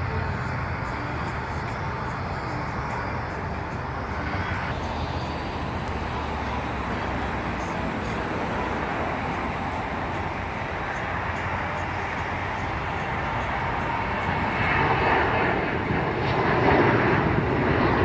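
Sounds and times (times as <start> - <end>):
distant jet engines roaring: 0.0 - 18.0
traffic rumble: 0.0 - 18.0.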